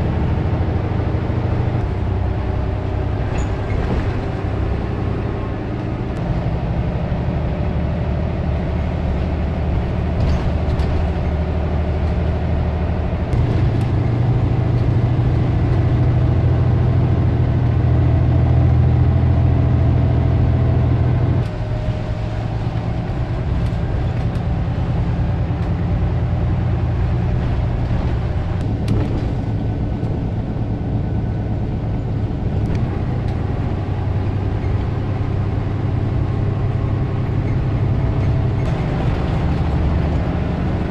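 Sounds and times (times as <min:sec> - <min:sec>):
bus engine hum: 0:00.0 - 0:40.9
road noise: 0:00.0 - 0:40.9.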